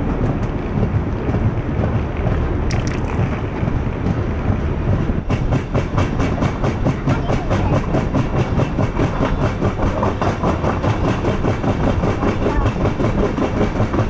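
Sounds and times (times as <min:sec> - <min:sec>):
train rumbling: 0:00.0 - 0:14.0
wheels clattering on rails: 0:00.0 - 0:14.0.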